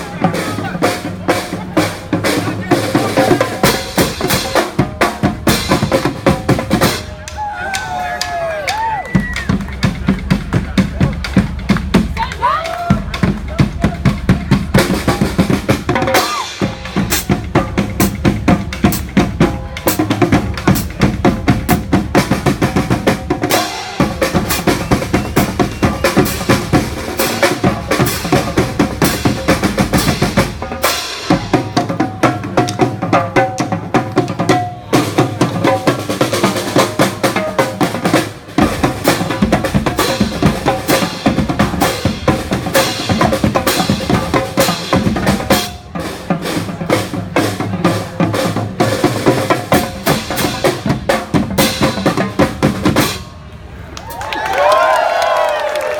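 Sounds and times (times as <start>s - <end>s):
bass and snare drumline: 0.0s - 53.5s.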